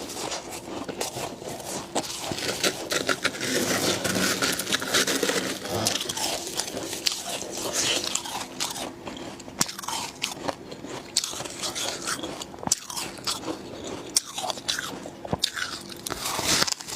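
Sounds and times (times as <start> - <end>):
biting and chewing frost: 0.0 - 16.9.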